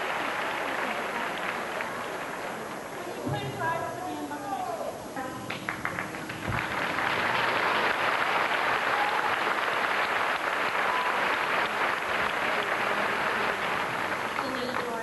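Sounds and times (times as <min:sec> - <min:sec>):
audience applauding: 0:00.0 - 0:03.8, 0:05.5 - 0:15.0.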